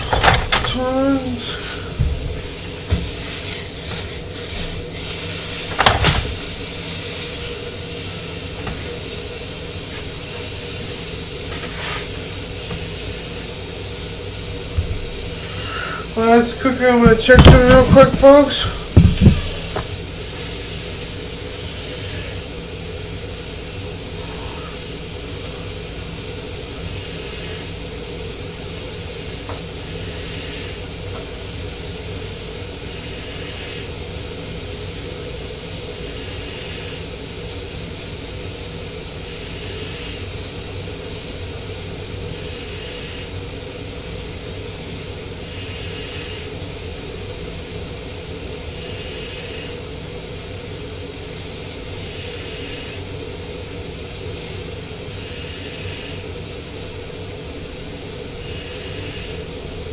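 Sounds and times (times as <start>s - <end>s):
steady low hum: 0.0s - 59.9s
steak sizzling in a pan: 0.1s - 59.9s.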